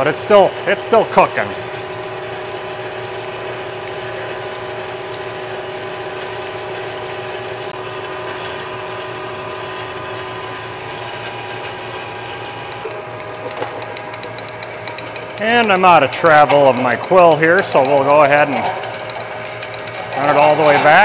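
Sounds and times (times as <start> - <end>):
lathe gear whine: 0.0 - 21.0.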